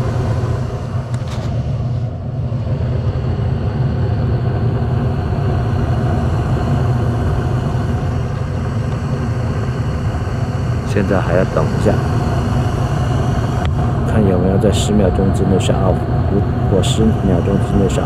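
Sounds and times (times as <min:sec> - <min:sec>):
furnace burner and fan rumble: 0:00.0 - 0:18.0.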